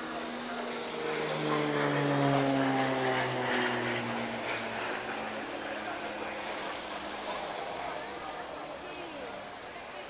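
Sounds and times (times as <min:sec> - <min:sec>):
propeller plane passing by: 0:00.0 - 0:10.0.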